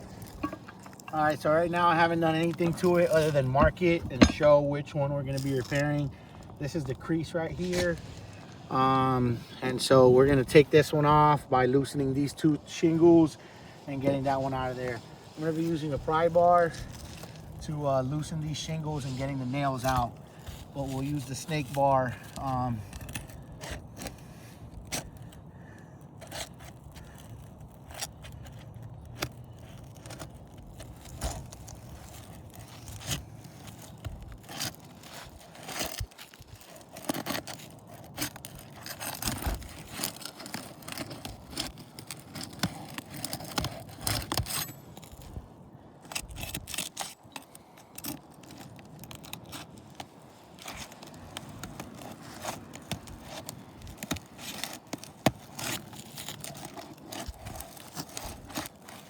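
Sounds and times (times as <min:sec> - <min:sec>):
pry bar scraping on shingles: 0:00.0 - 0:59.0.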